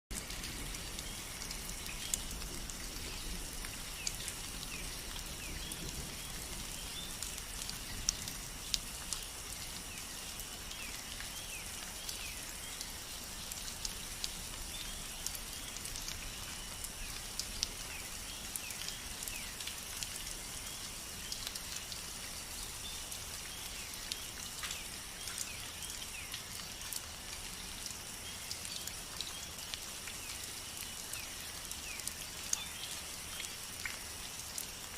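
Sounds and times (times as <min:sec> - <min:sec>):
raindrops ticking: 0:00.1 - 0:34.9
steady rain hiss: 0:00.1 - 0:34.9.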